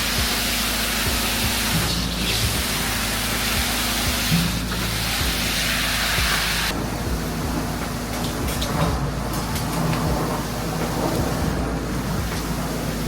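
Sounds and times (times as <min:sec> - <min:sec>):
loud hissing rush: 0:00.0 - 0:13.0
truck engine running: 0:00.0 - 0:13.0.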